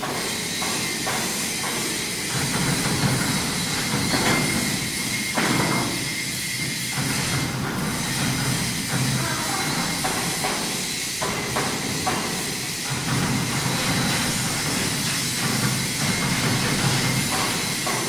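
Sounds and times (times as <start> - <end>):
factory machinery hiss and rumble: 0.0 - 18.0.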